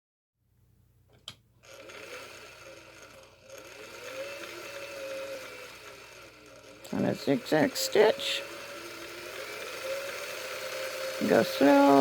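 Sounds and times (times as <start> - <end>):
sewing machine running: 1.6 - 12.0.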